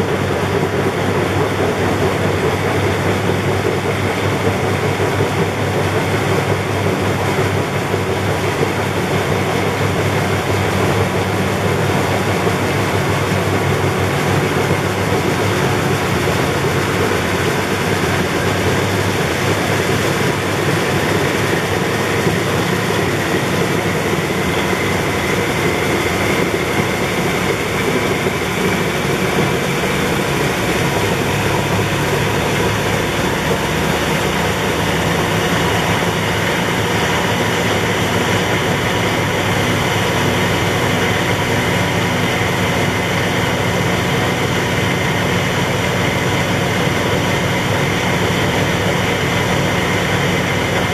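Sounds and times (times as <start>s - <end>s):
washing machine whirring: 0.0s - 50.9s.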